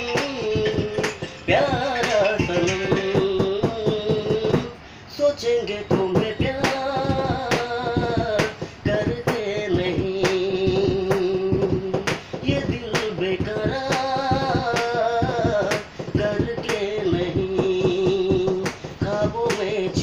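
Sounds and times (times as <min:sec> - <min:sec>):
sharp beat clicks: 0:00.0 - 0:04.7, 0:05.9 - 0:20.0
man singing unaccompanied: 0:00.0 - 0:20.0.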